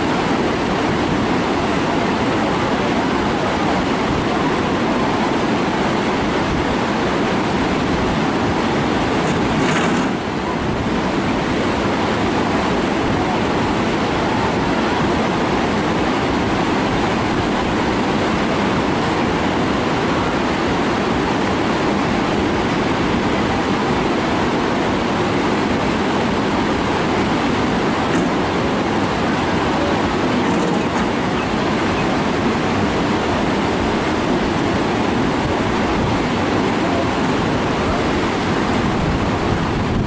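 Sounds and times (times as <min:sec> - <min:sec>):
river whitewater rushing: 0:00.0 - 0:40.0.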